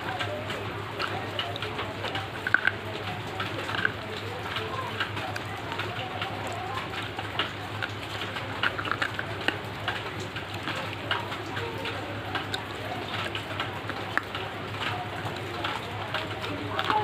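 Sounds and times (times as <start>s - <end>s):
chewing crunchy snack: 0.5s - 17.0s.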